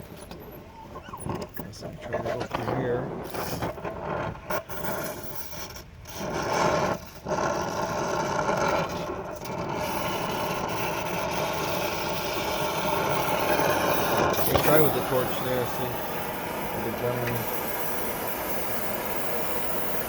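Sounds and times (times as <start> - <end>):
gas torch flame hissing: 0.0 - 20.0.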